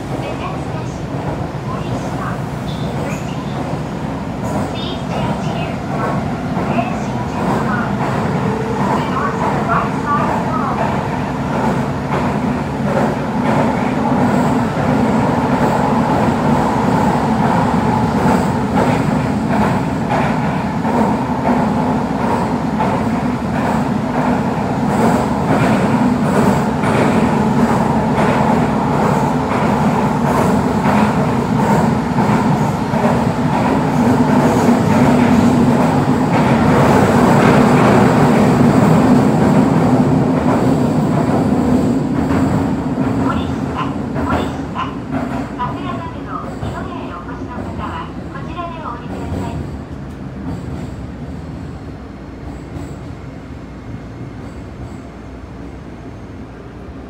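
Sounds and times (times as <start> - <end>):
subway train wheels roaring: 0.0 - 57.0.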